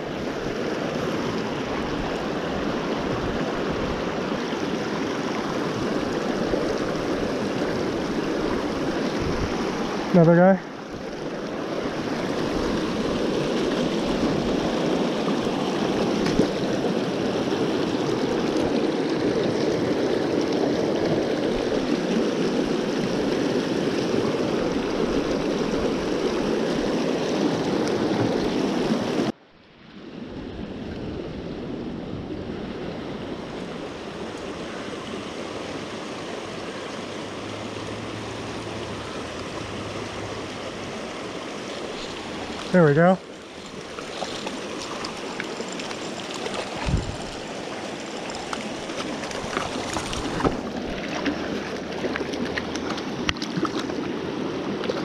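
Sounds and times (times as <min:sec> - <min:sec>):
creek running over rocks: 0:00.0 - 0:55.0.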